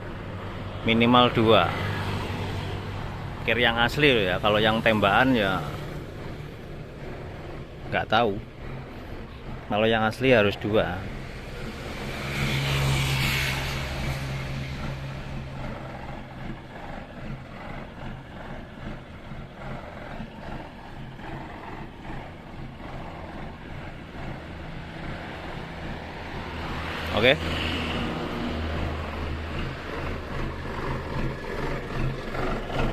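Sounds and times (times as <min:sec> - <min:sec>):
truck diesel engine idling: 0:00.0 - 0:32.9.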